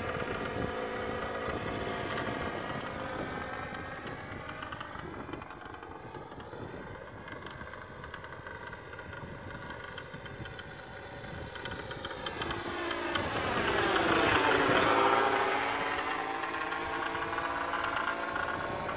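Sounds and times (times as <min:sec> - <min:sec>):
model plane engine flying overhead: 0:00.0 - 0:18.9.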